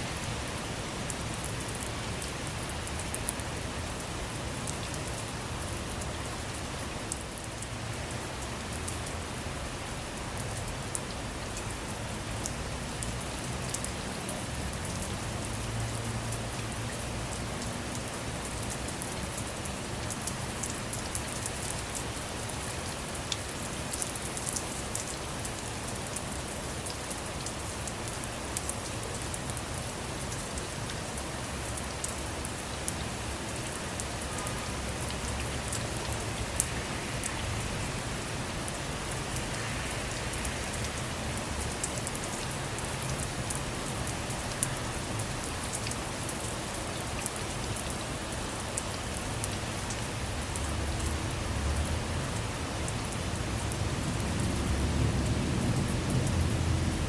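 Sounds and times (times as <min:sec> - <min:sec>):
rain falling on a car: 0:00.0 - 0:57.0.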